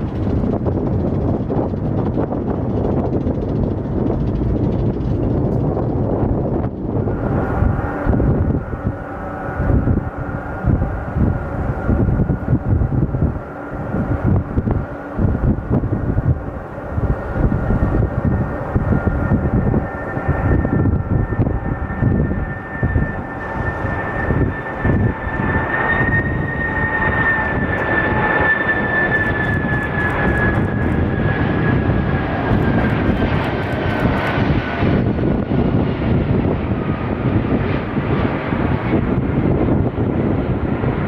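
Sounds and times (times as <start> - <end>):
jet engines rumbling and whining: 0.0 - 41.0.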